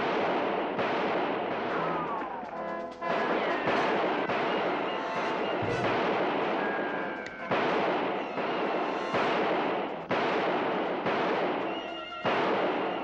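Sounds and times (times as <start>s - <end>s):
background music: 0.0s - 13.0s
echoing gunshots: 0.0s - 13.0s.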